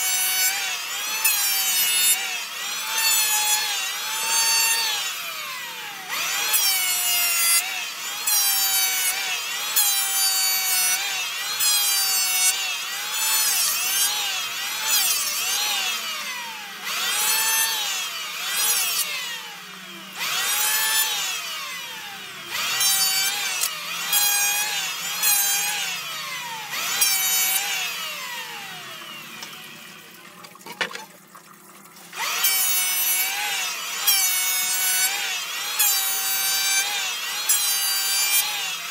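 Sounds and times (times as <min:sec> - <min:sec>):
circular saw cutting wood: 0:00.0 - 0:31.2, 0:32.1 - 0:38.9.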